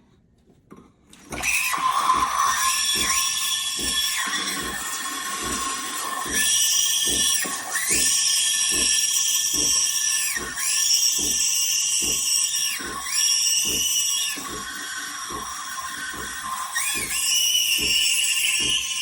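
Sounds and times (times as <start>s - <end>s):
steam wand hissing and squealing: 1.4s - 19.0s.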